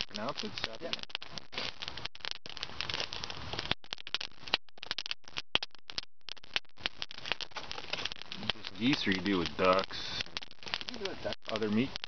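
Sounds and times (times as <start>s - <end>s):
sharp snaps and pops: 0.0s - 12.0s
wood fire crackling: 0.0s - 12.0s.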